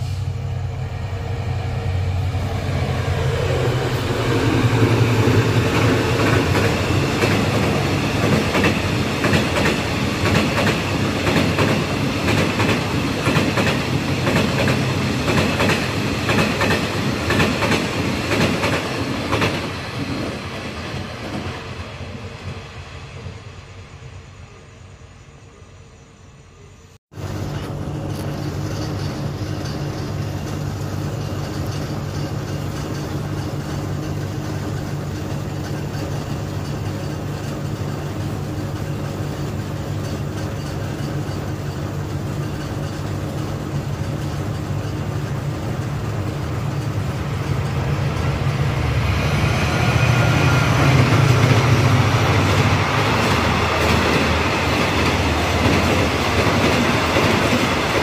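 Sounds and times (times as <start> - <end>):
diesel train engine hum: 0.0 - 58.0
train wheels clattering: 2.5 - 21.9, 27.2 - 58.0.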